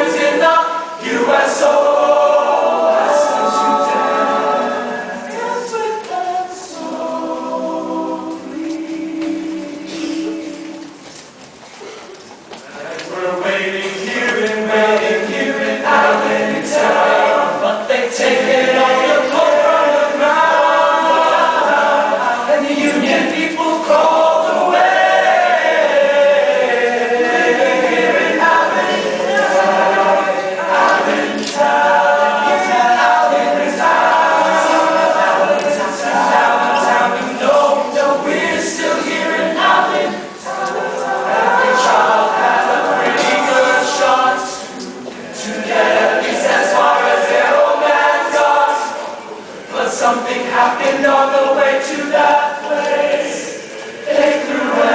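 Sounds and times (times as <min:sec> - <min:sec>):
choir singing in parts: 0:00.0 - 0:11.1, 0:12.7 - 0:54.9.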